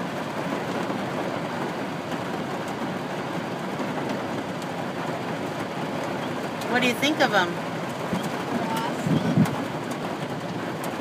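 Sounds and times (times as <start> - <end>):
rain on car roof: 0.0 - 11.0
tyres on wet road: 0.0 - 11.0.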